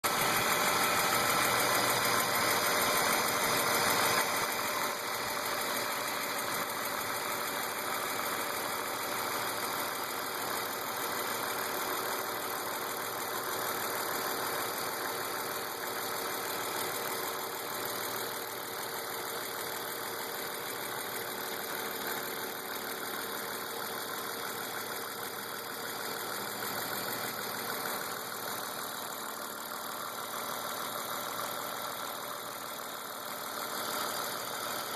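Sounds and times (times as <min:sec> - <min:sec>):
car engine idling: 0:00.0 - 0:34.9
engine ticking: 0:00.0 - 0:34.9.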